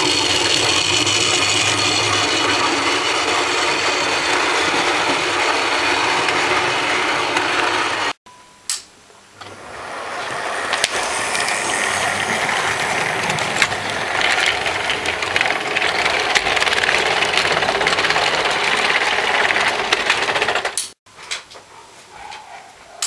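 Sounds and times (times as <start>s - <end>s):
model train rattling along track: 0.0s - 8.2s, 9.4s - 21.0s.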